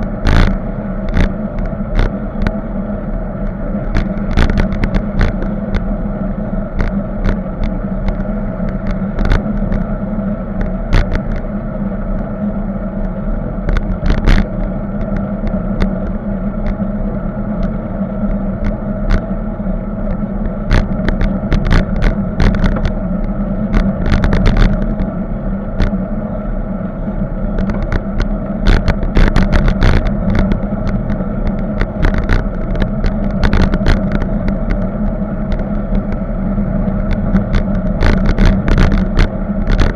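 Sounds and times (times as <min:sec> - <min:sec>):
wind and tyre hum: 0:00.0 - 0:39.9.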